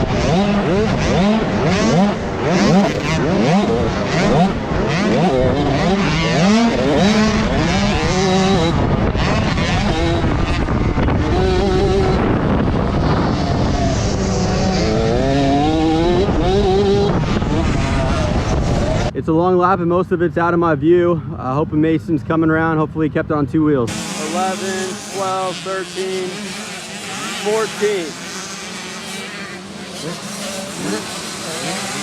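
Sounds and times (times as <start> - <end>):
dirt bike engines racing: 0.0 - 32.0.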